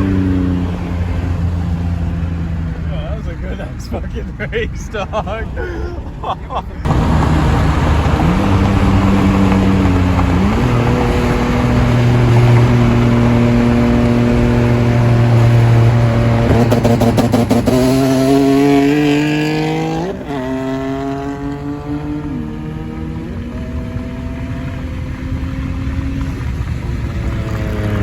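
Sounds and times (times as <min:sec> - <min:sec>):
car engine revving: 0:00.0 - 0:04.4, 0:06.8 - 0:28.0.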